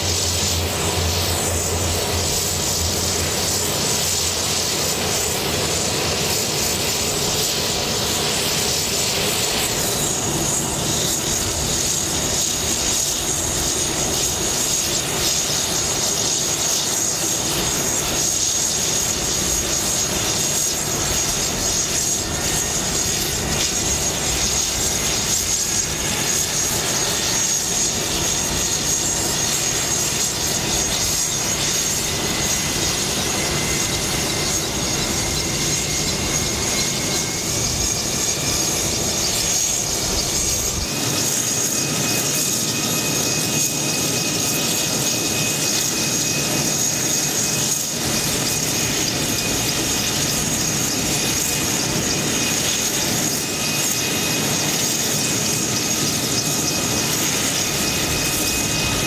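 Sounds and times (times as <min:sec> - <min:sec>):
rotor and propeller noise: 0:00.0 - 0:59.0
turbine engine whine: 0:00.0 - 0:59.0.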